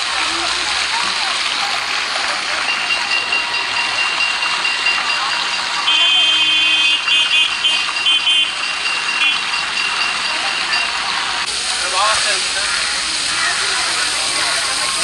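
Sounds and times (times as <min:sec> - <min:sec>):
murmur of large crowd: 0:00.0 - 0:15.0.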